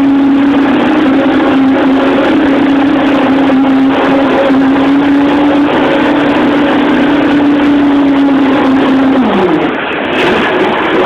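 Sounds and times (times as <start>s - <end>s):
boat engine revving: 0.0s - 11.0s.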